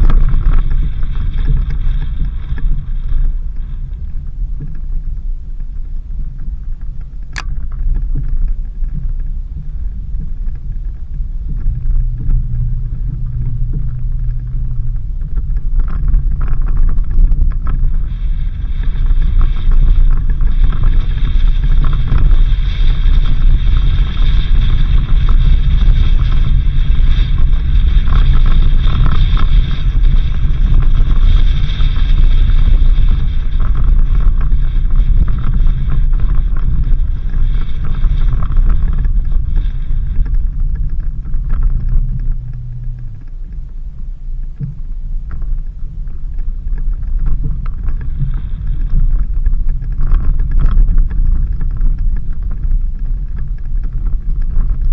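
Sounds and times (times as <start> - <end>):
engine and tyres rumbling: 0.0 - 54.9
wind buffeting microphone: 0.0 - 54.9.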